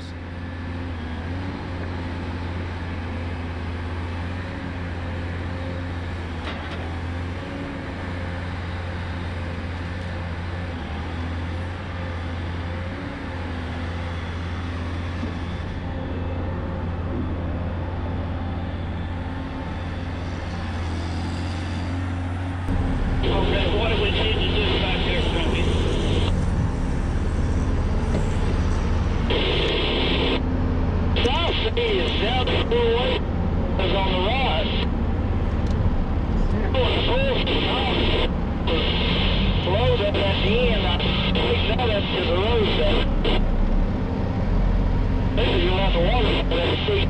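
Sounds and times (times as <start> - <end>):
heavy diesel engines humming: 0.0 - 47.0.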